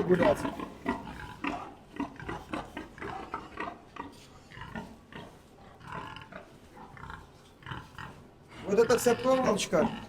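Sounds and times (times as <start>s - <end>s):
wild boar grunting: 0.0s - 10.0s.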